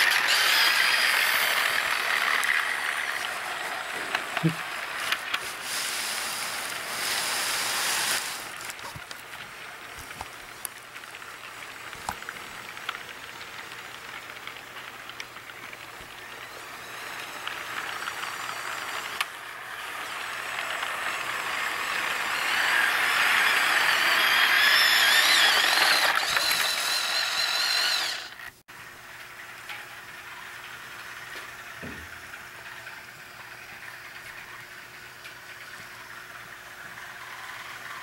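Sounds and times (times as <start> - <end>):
model locomotive motor whine: 0.0 - 38.0
model train cars rattling: 0.0 - 38.0.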